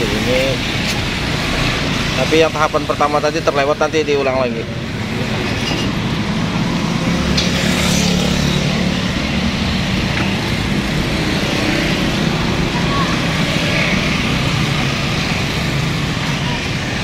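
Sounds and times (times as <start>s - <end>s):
roadside noise: 0.0s - 17.0s
vehicle engine humming: 0.0s - 17.0s.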